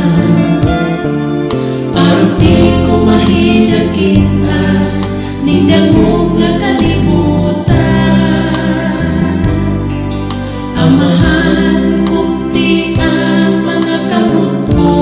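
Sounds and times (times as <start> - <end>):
instrumental backing with bass notes: 0.0 - 15.0
man and woman singing duet: 0.0 - 15.0.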